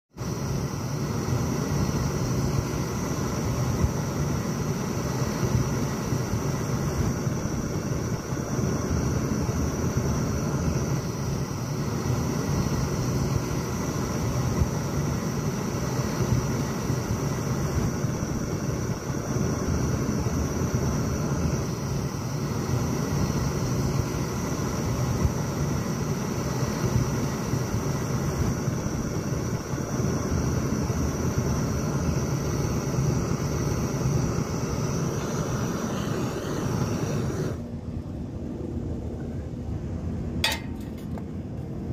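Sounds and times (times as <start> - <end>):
thin high hiss: 0.1 - 37.7
brazing torch flame rushing: 0.1 - 37.8.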